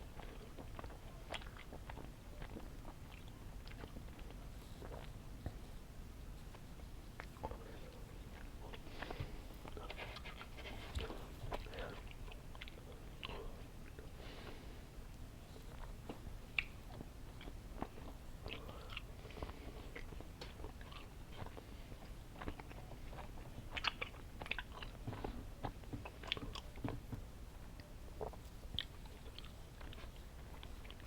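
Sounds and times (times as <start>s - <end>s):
person chewing candy: 0.0s - 5.7s, 6.4s - 31.0s.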